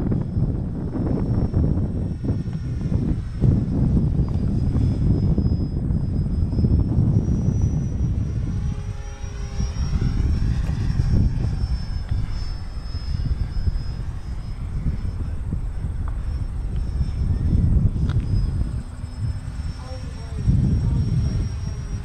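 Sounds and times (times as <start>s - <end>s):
model airplane motor whine: 0.0s - 22.0s
wind buffeting microphone: 0.0s - 22.0s.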